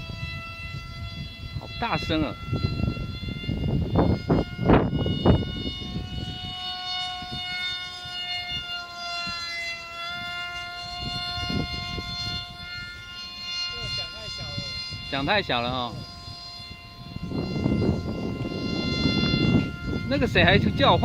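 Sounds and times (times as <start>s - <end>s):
electric motor high whine: 0.0s - 21.0s
wind buffeting microphone: 0.0s - 21.0s.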